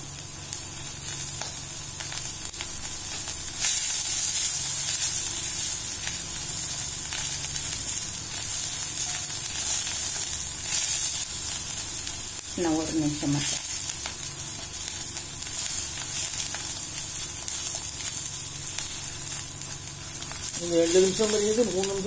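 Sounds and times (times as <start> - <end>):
leaves sizzling in oil: 0.0 - 22.0.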